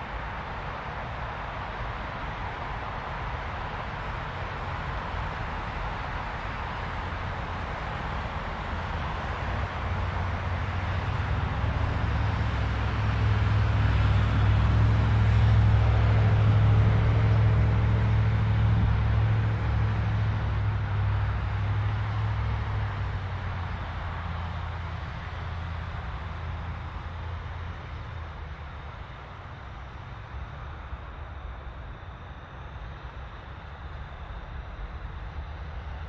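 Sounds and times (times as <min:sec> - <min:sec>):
passing vehicle engine drone: 0:03.9 - 0:36.0.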